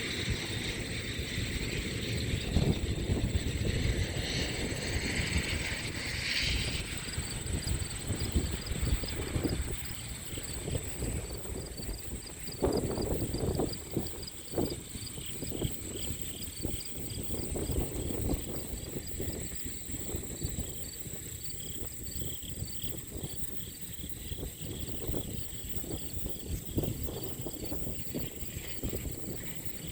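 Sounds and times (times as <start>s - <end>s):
crickets trilling: 0.0s - 29.9s
insects chirping: 0.0s - 29.9s
low rumble with gusts: 0.0s - 29.9s.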